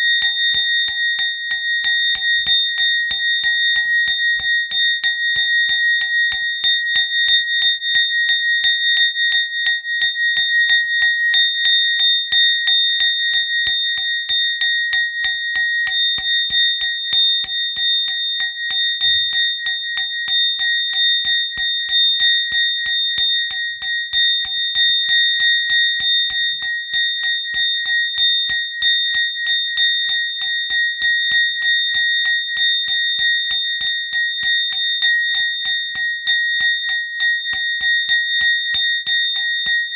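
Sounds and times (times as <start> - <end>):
small hand bell ringing: 0.0 - 39.9.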